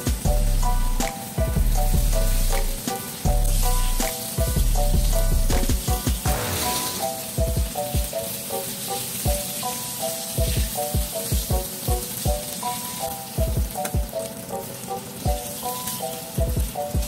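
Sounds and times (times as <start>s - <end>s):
background music with plucked notes: 0.0s - 17.0s
oil sizzling in a pan: 0.0s - 17.0s.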